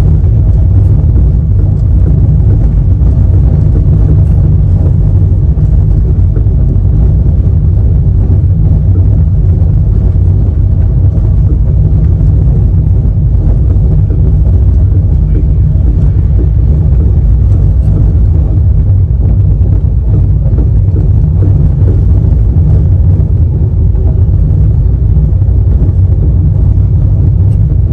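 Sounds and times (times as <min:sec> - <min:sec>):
train rumbling: 0:00.0 - 0:27.9.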